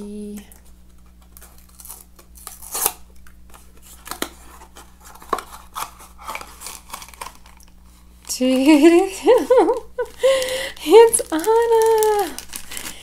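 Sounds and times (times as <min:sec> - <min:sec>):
packaging being opened: 0:00.6 - 0:13.0
packaging rustle: 0:00.6 - 0:13.0.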